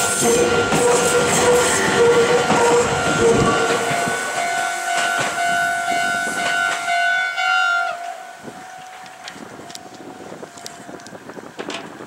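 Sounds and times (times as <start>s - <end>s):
crossing warning bell ringing: 0.0s - 11.5s
train rumble: 0.0s - 12.0s.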